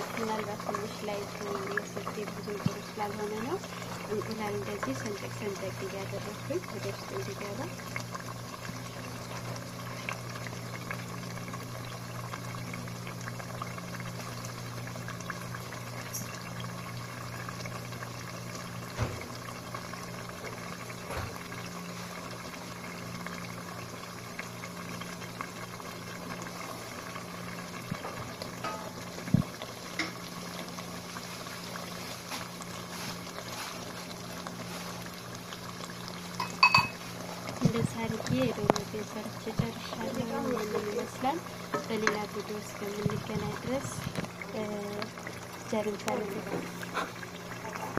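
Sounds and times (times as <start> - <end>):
stew bubbling in a pot: 0.0 - 47.9.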